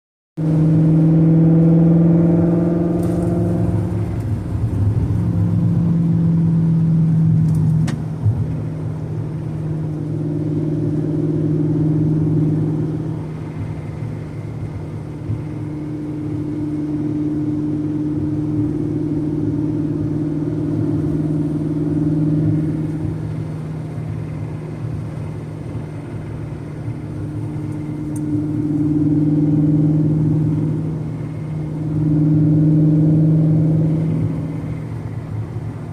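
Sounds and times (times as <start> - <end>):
car engine idling: 2.8 - 35.9.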